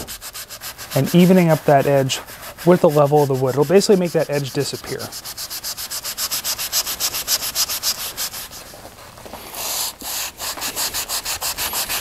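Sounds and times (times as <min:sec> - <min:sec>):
sanding block rubbing wood: 0:00.0 - 0:12.0.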